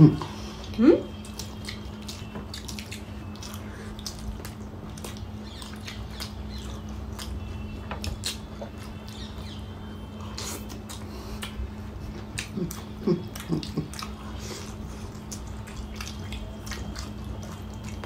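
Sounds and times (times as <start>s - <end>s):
faint steady hum: 0.0s - 18.0s
wet chewing clicks and smacks: 0.6s - 18.0s.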